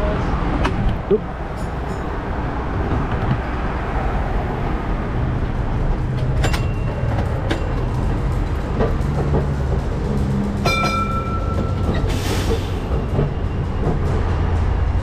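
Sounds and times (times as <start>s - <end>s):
tram wheels rumbling on rail: 0.0s - 15.0s.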